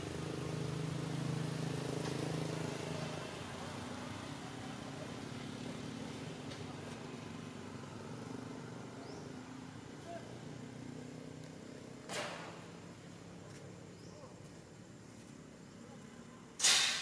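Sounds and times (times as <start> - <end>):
vehicle engine humming: 0.0 - 16.6.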